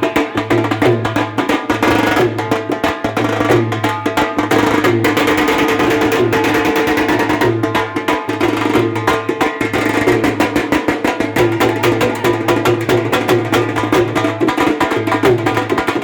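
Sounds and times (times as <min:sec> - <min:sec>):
lively music with fast beat: 0:00.0 - 0:16.0.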